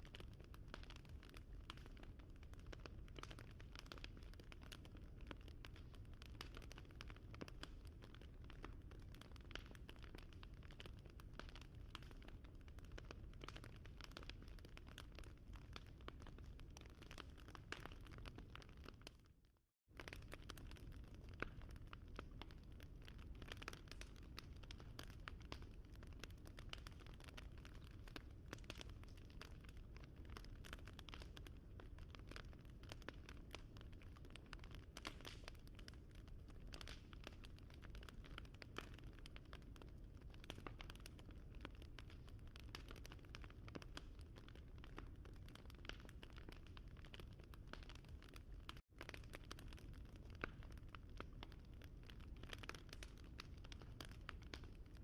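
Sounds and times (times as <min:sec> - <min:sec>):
wood fire crackling: 0:00.2 - 0:19.2, 0:20.0 - 0:55.0.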